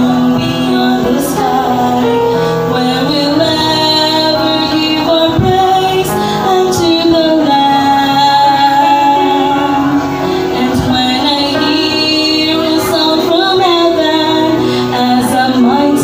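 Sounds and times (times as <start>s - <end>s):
vocal trio singing gospel: 0.0s - 16.0s.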